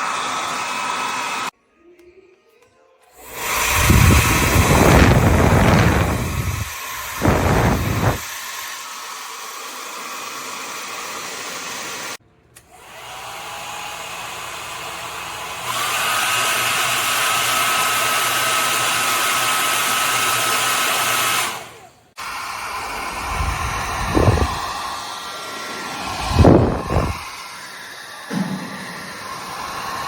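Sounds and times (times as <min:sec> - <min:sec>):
hair dryer running: 0:00.0 - 0:01.5, 0:03.2 - 0:30.0.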